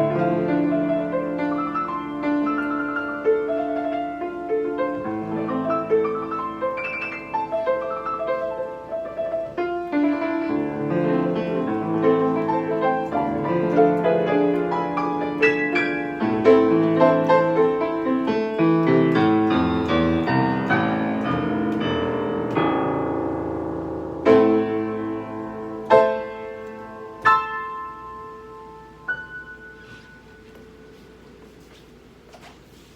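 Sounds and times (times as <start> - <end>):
piano playing: 0.0 - 31.5.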